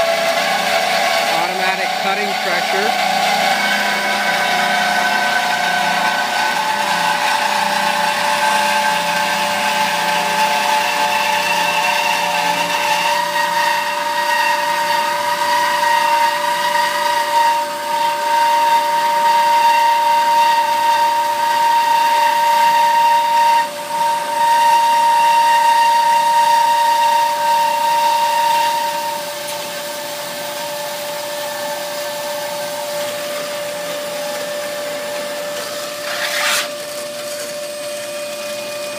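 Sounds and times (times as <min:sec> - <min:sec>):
band saw cutting pipe: 0:00.0 - 0:38.9.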